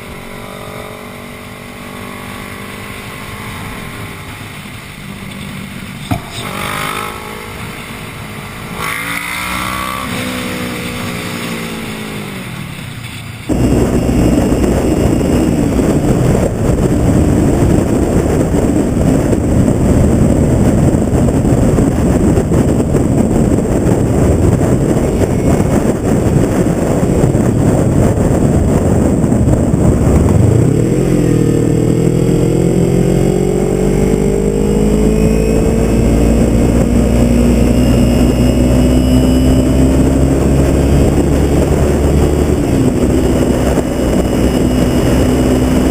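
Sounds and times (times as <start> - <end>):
motorcycle engine revving: 0.0 - 45.9
wind noise: 0.0 - 45.9.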